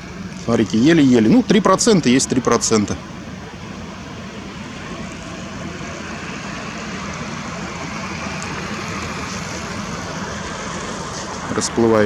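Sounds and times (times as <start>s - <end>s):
distant road traffic: 0.0s - 12.0s
even hiss: 0.0s - 12.0s.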